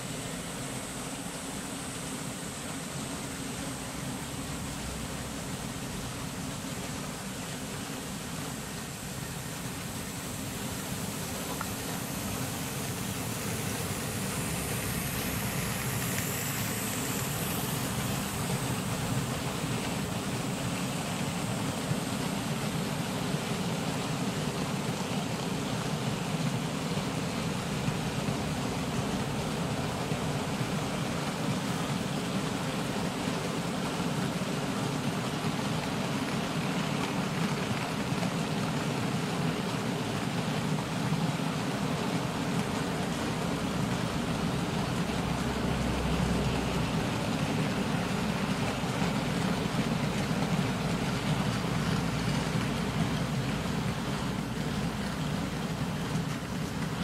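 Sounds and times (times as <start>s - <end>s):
model train wagons rolling on track: 3.8s - 57.0s.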